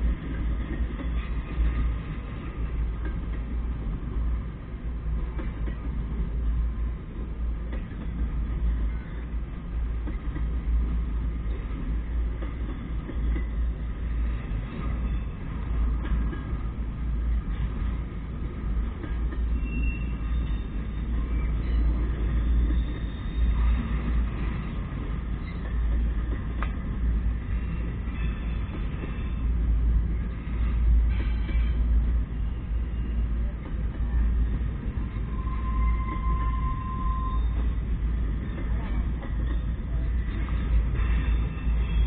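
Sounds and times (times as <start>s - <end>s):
freight train wheels rumbling: 0.0s - 42.0s.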